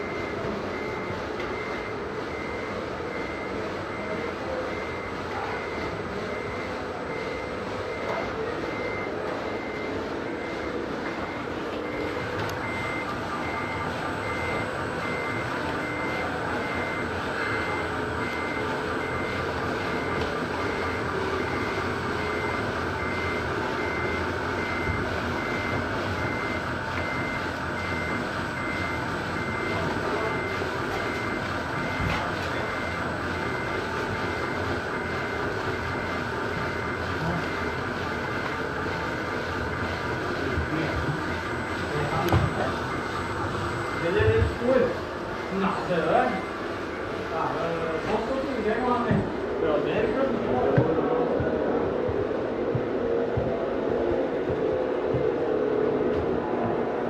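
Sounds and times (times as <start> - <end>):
reversing beeper beeps: 0.0 - 49.0.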